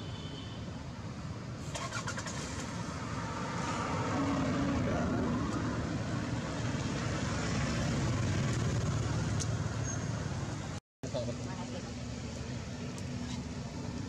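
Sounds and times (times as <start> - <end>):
traffic noise: 0.0 - 14.0
vehicle engine rumble: 0.8 - 14.0.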